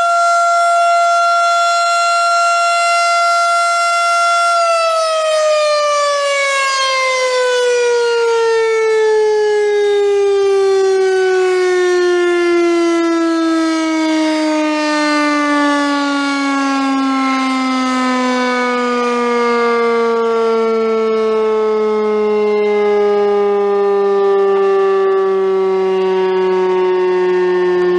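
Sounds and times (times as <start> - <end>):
warning siren winding down: 0.0 - 27.9.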